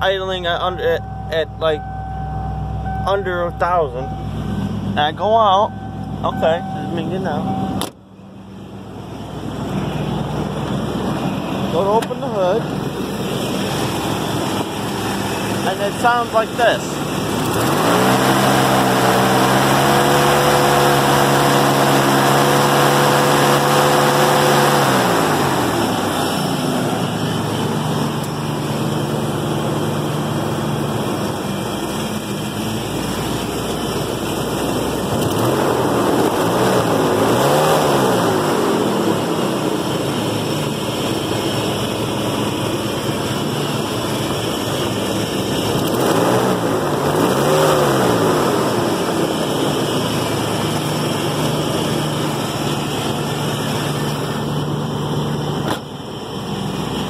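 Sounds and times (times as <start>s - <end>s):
car engine revving: 0.0s - 57.0s
engine buzzing noise: 0.0s - 57.0s.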